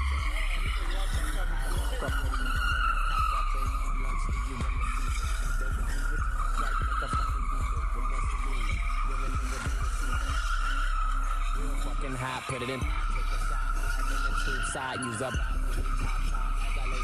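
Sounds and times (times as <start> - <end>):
car tyres squealing: 0.0 - 17.0.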